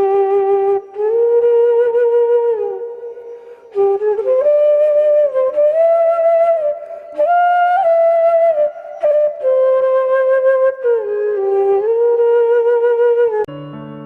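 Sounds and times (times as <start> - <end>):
solo flute melody: 0.0 - 14.0.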